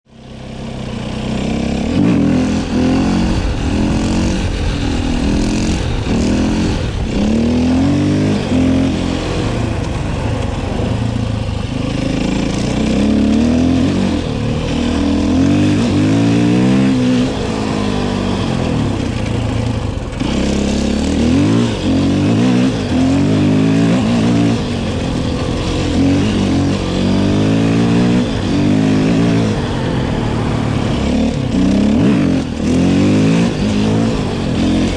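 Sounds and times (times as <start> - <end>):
motorcycle engine accelerating hard: 0.0 - 34.9.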